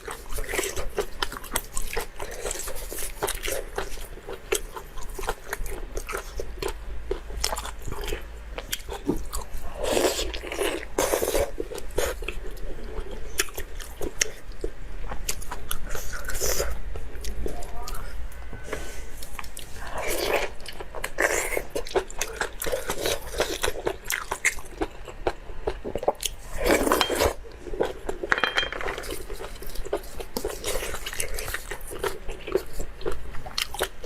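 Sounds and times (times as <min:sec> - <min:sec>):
person chewing crunchy food: 0:00.0 - 0:18.1, 0:19.1 - 0:34.0.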